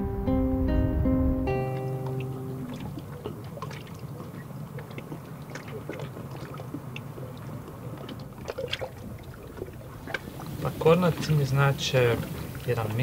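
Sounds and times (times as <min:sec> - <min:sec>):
water drips: 0:01.6 - 0:13.0
water lapping and splashing: 0:01.7 - 0:13.0.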